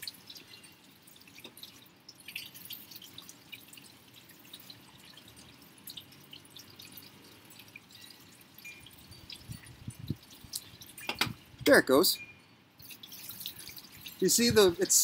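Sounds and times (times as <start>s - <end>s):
ticking pops of water: 0.0s - 15.0s
water dripping: 0.0s - 15.0s.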